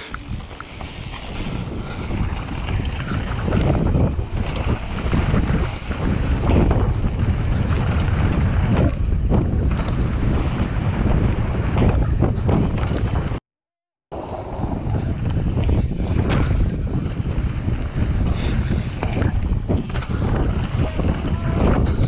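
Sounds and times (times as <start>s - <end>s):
bike clicks and rattles: 0.0s - 13.4s, 14.8s - 22.0s
wind buffeting microphone: 0.0s - 13.4s, 14.1s - 22.0s.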